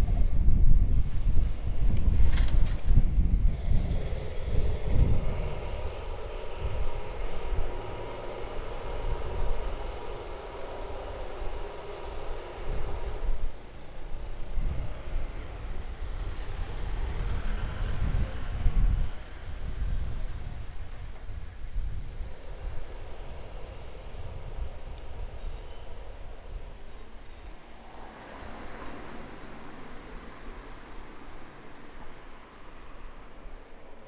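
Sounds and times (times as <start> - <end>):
engine drone: 0.0 - 34.0
wind rumble on microphone: 0.0 - 34.0.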